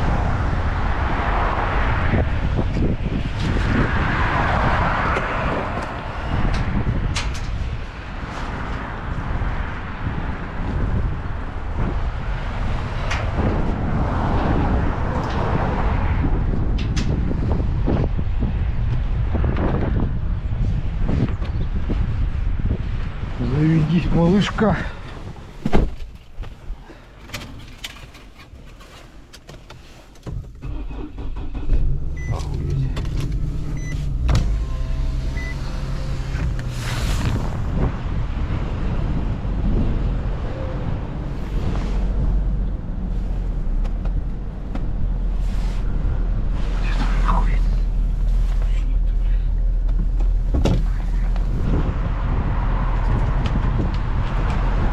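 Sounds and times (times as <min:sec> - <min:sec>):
truck engine and road rumble: 0:00.0 - 0:54.9.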